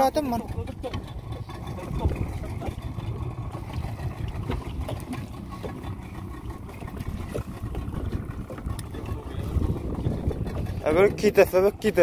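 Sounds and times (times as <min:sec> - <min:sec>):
boat rumble: 0:00.0 - 0:12.0
faint splashes: 0:00.0 - 0:12.0
water lapping against hull: 0:00.0 - 0:12.0
wind on microphone: 0:01.2 - 0:06.0, 0:06.8 - 0:12.0.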